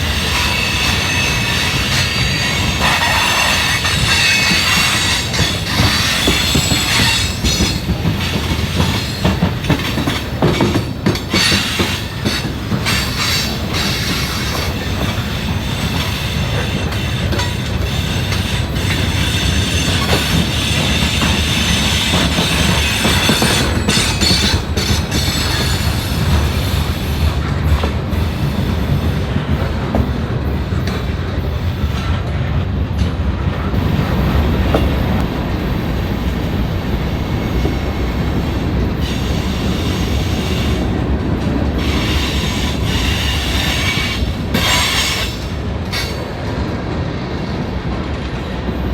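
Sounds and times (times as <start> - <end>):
train wheels squealing: 0.0 - 29.7, 35.8 - 41.1, 41.8 - 46.3
train wheels clacking over rail joints: 0.0 - 48.9.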